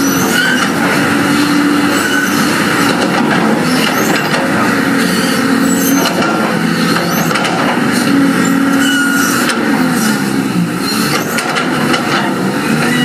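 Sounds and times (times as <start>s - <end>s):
bulldozer diesel drone: 0.0s - 13.0s
steel tracks squeaking and clanking: 0.0s - 13.0s.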